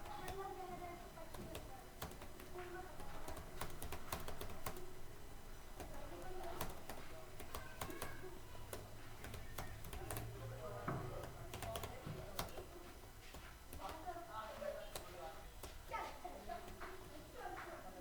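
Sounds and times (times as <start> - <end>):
typing on keyboard: 0.0 - 0.6, 1.2 - 5.0, 5.8 - 14.2, 14.8 - 17.6.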